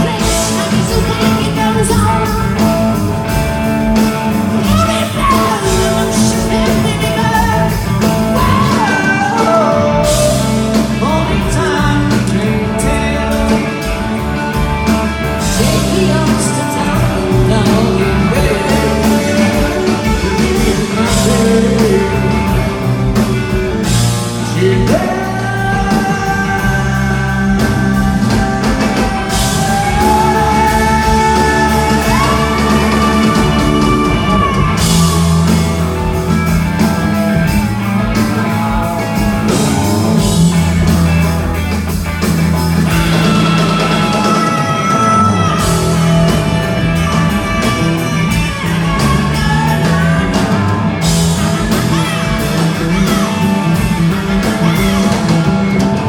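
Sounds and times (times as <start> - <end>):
bass guitar: 0.0 - 56.0
drums: 0.0 - 56.0
electric guitar: 0.0 - 56.0
person singing: 0.0 - 56.0.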